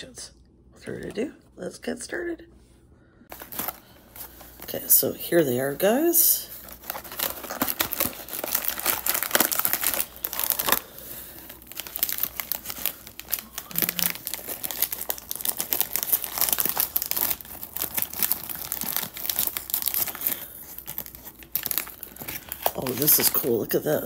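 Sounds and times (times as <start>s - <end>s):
foil snack packet crinkling: 3.3s - 24.0s.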